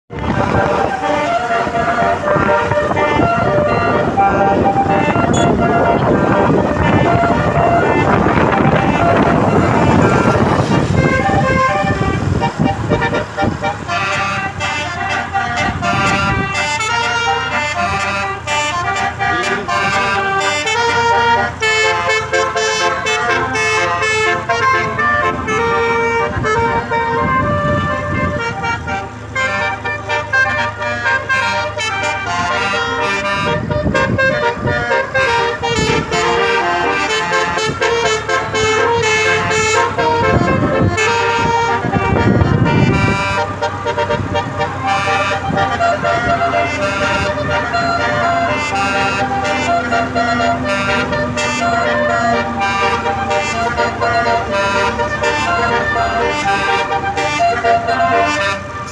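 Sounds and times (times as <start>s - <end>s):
low rumbles: 0.1s - 58.9s
musical air horn melody: 0.1s - 58.9s.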